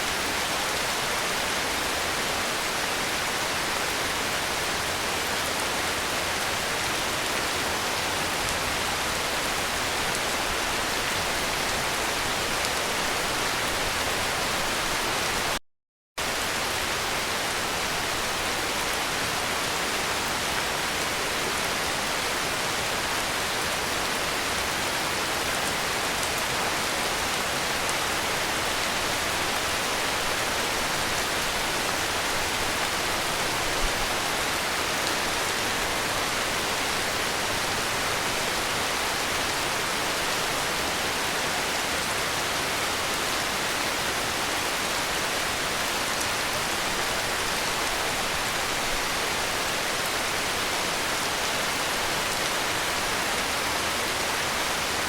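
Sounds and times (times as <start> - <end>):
heavy rain falling: 0.0 - 15.6, 16.2 - 55.0.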